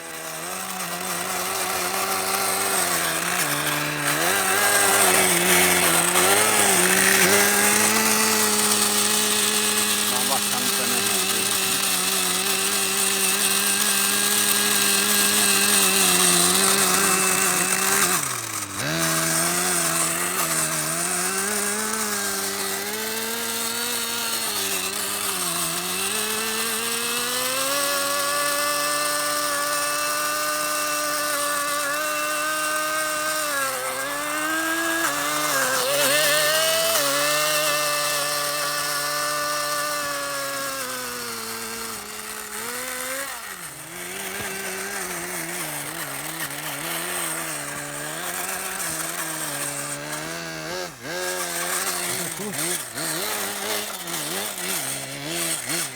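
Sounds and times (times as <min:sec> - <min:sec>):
model aircraft engine running: 0:00.0 - 0:55.9.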